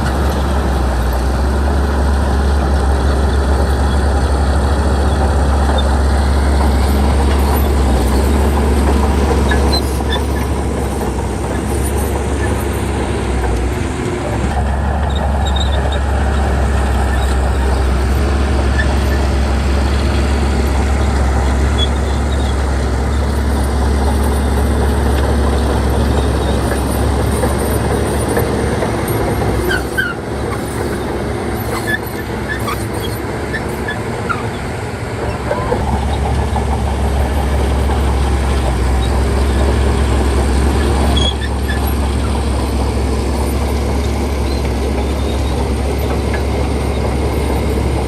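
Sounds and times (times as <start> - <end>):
diesel engine rumbling: 0.0 - 48.0.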